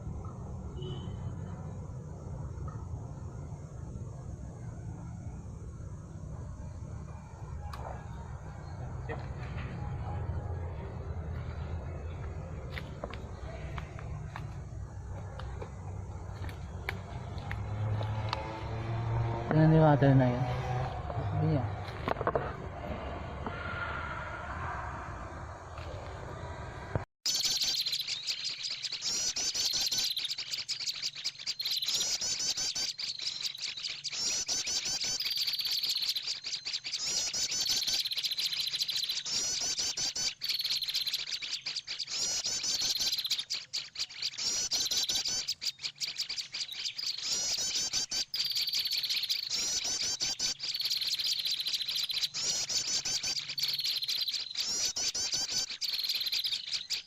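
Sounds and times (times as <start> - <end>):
small birds twittering: 0.0 - 26.5, 27.2 - 57.0.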